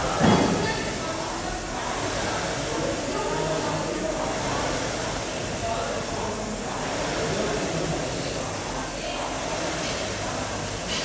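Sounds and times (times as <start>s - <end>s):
rowing machine flywheel whooshing: 0.0s - 11.0s.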